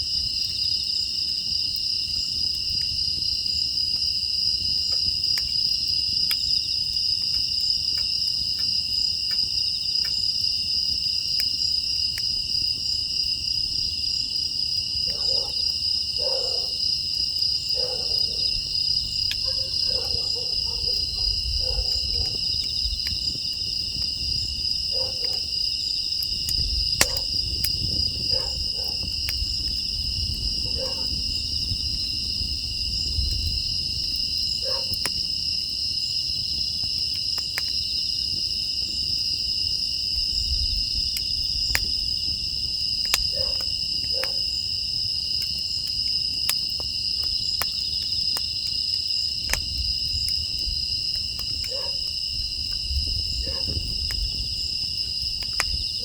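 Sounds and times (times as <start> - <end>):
crickets chirping: 0.0 - 56.0
wood fire crackling: 0.0 - 56.0.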